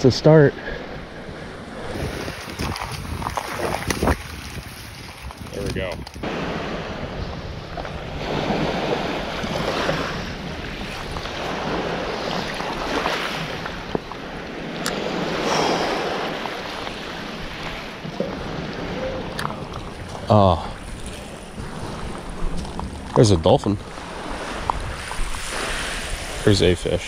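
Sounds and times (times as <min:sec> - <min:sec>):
small waves lapping shoreline: 0:00.2 - 0:27.0
wind rumbling on microphone: 0:00.8 - 0:27.0.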